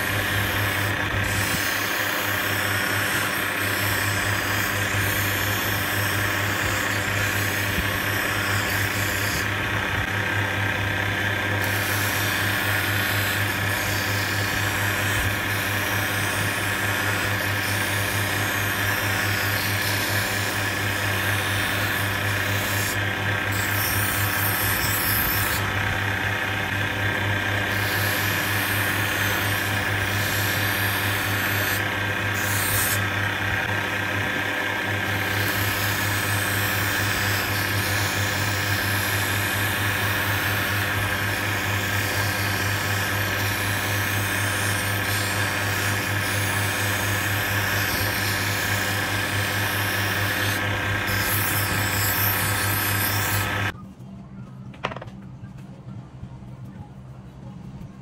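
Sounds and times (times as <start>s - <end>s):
motor hum: 0.0s - 58.0s.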